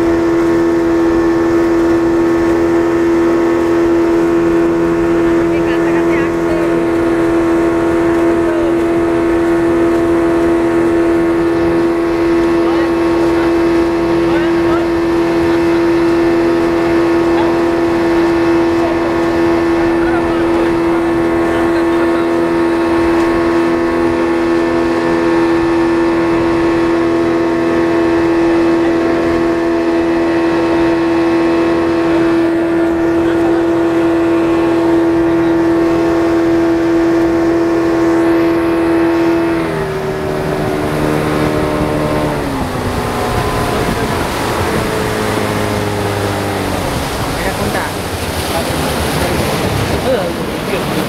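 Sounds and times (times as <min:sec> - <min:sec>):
rushing water and spray: 0:00.0 - 0:51.0
speedboat engine running: 0:00.0 - 0:51.0.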